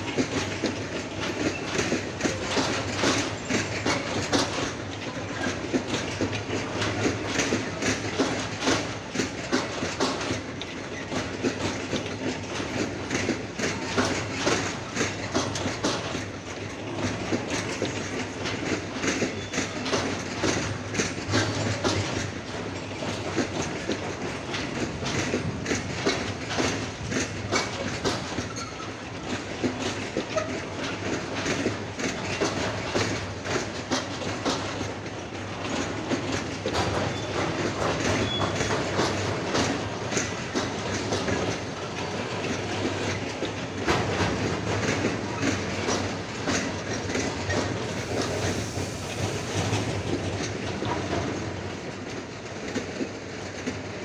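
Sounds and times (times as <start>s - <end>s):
freight train rumbling: 0.0s - 54.0s
wheels clicking over rail joints: 0.0s - 54.0s.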